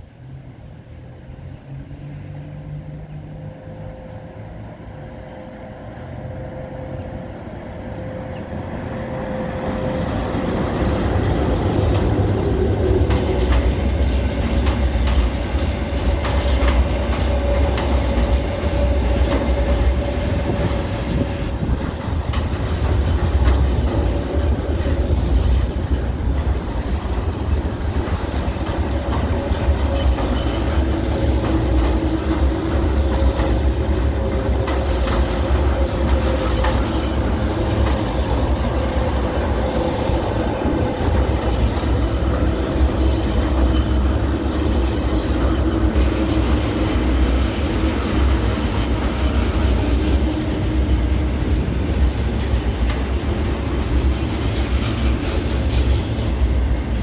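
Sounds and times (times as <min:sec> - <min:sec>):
freight train rumbling past: 0:00.0 - 0:57.0
wheels clicking over rail joints: 0:10.5 - 0:56.7.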